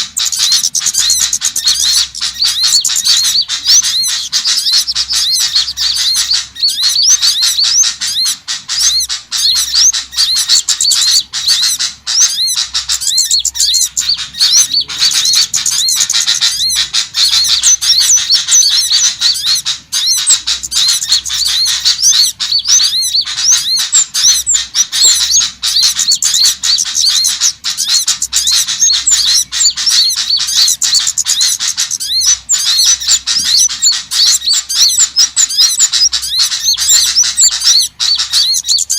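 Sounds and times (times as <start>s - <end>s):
songbirds twittering and chirping: 0.0s - 38.9s.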